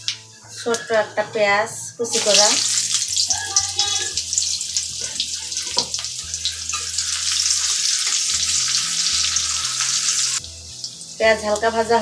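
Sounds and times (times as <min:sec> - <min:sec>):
onion frying with crackling sizzle: 0:02.1 - 0:12.0.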